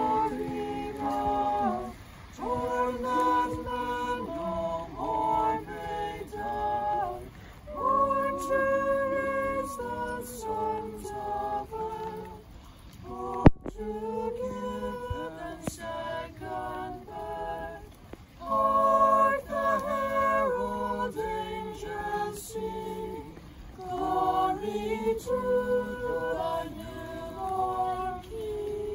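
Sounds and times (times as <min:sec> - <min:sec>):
women and children singing a carol: 0:00.0 - 0:28.9.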